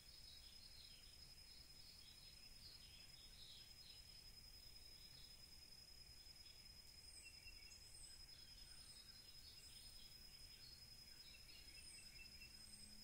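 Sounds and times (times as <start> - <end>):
bird chirps: 0.0 - 5.3, 6.2 - 13.0
thin steady high tone: 0.0 - 13.0.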